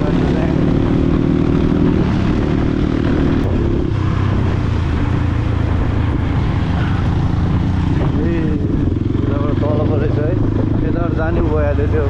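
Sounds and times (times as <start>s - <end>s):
dirt bike engine droning: 0.0s - 12.0s.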